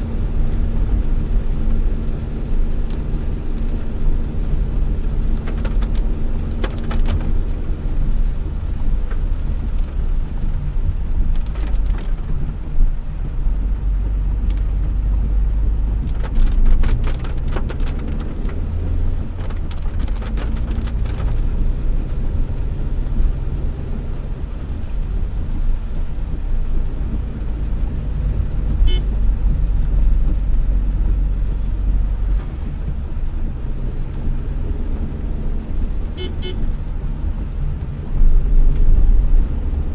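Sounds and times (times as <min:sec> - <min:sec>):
engine and tyres rumbling: 0:00.0 - 0:39.9
rain ticking on car: 0:00.0 - 0:39.9.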